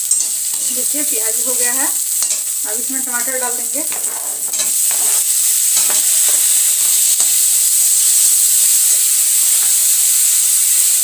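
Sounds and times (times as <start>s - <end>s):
metal spoon scraping a pan: 0.0s - 10.2s
onions sizzling in hot oil: 0.0s - 11.0s.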